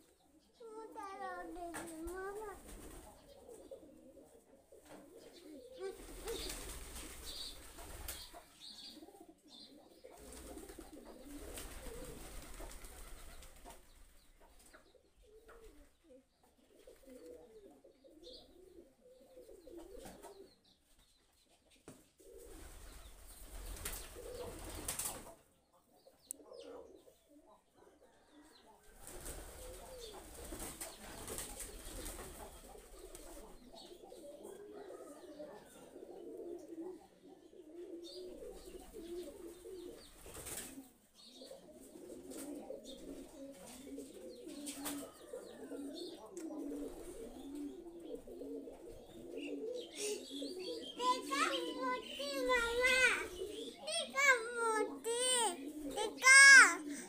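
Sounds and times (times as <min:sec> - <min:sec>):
pigeons cooing: 0:00.0 - 0:20.8, 0:22.1 - 0:57.0.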